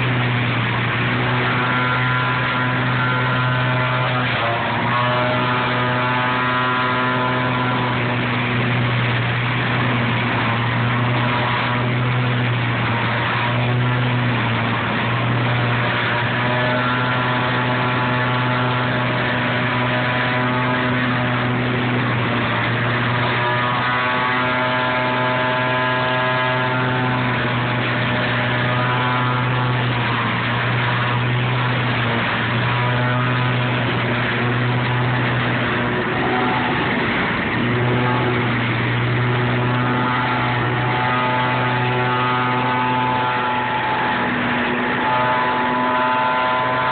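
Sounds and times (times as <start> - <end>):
leaf vacuum engine drone: 0.0 - 46.9.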